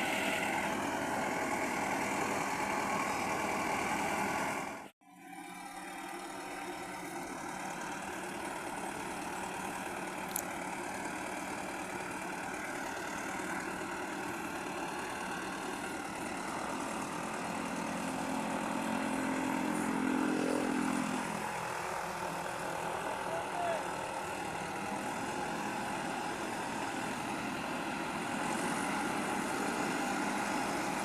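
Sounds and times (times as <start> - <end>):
deep engine hum: 0.0 - 31.0
tractor diesel engine running: 0.0 - 31.0.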